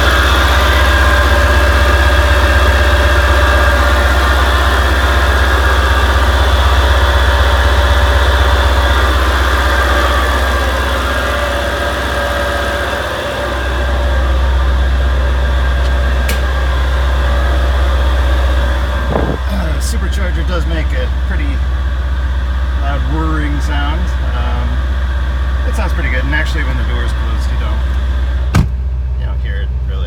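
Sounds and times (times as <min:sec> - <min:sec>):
car engine idling: 0:00.0 - 0:30.0
supercharger whirring: 0:00.0 - 0:30.0.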